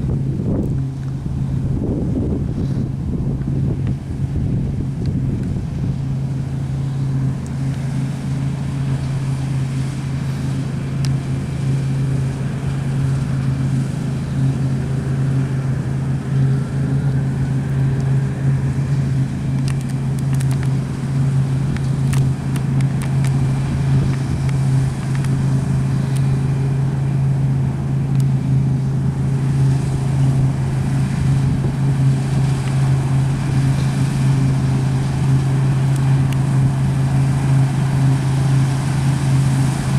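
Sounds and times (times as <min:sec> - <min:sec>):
diesel machine droning: 0:00.0 - 0:39.9.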